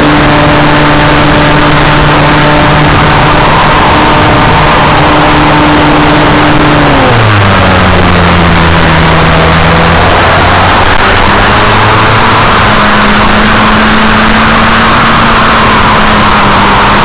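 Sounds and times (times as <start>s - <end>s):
electric motor and propeller whine: 0.0s - 17.0s.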